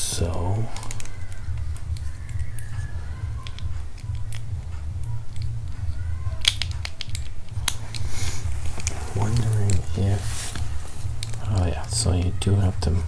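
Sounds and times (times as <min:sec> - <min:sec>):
steady low hum: 0:00.0 - 0:13.0
plastic parts clicking: 0:00.2 - 0:08.1, 0:08.8 - 0:12.7.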